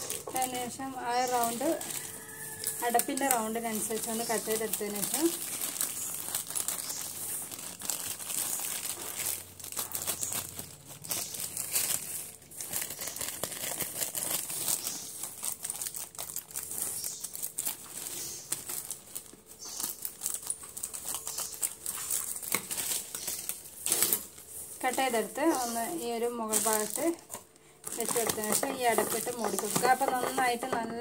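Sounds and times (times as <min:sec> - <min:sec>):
plastic bag crinkling: 0:00.0 - 0:31.0.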